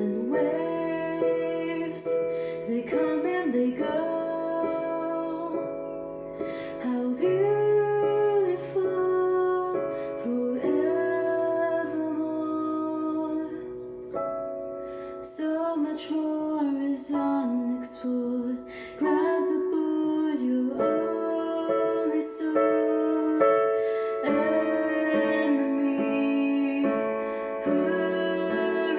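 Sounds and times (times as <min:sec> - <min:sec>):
woman singing: 0:00.0 - 0:13.9, 0:15.2 - 0:28.9
soft piano chords: 0:00.0 - 0:28.9.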